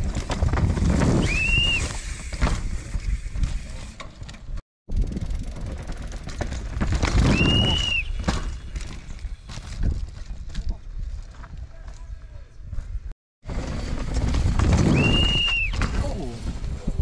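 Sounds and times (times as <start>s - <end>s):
mountain bike tyres on rough dirt: 0.0s - 17.0s.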